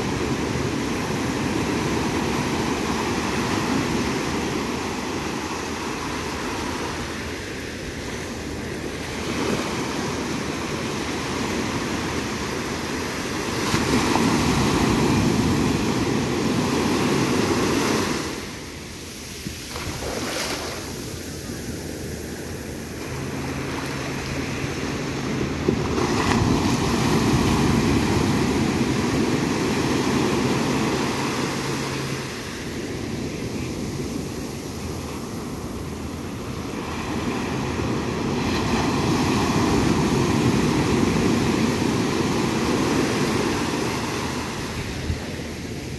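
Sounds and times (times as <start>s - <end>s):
sea surf breaking on sand: 0.0s - 45.9s.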